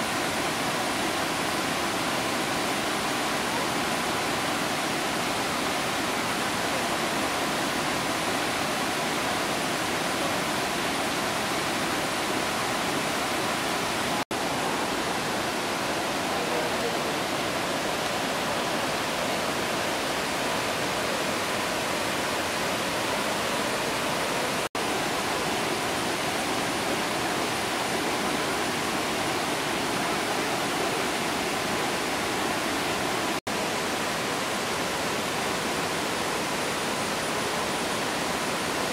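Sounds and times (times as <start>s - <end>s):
waterfall and rapids roaring: 0.0s - 38.9s.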